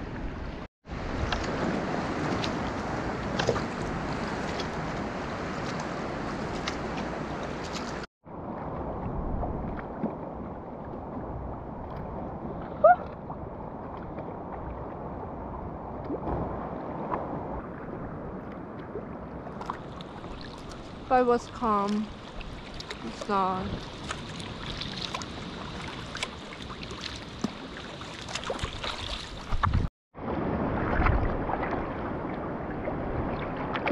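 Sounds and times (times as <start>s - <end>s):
water lapping against kayak hull: 0.0s - 29.9s, 30.6s - 33.9s.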